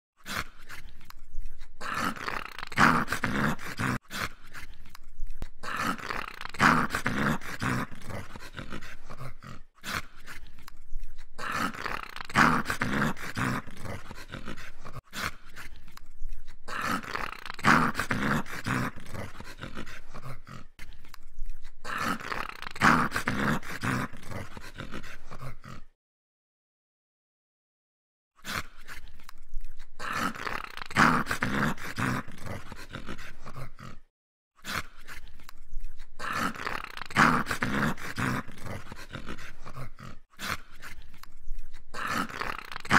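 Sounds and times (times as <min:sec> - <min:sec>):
dog growling: 0:00.2 - 0:20.8, 0:21.8 - 0:26.0, 0:29.8 - 0:35.2, 0:35.9 - 0:41.0, 0:41.6 - 0:42.9.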